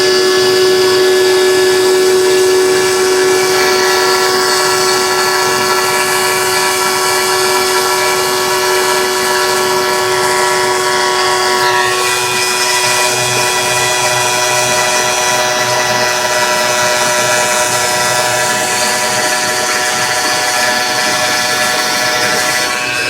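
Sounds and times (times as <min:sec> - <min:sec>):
machine motors whining: 0:00.0 - 0:23.0.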